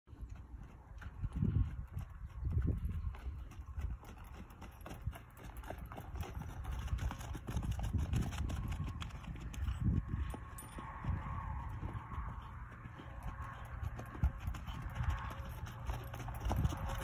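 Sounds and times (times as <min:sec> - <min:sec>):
horse hooves thudding on sand: 0:00.1 - 0:17.0.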